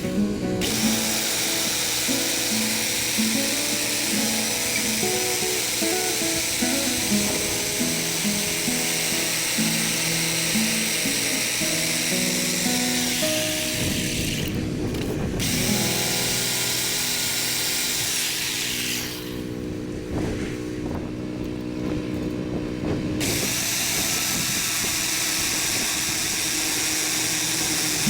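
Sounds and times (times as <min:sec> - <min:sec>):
power tool hissing on timber: 0:00.0 - 0:20.8, 0:23.1 - 0:28.0.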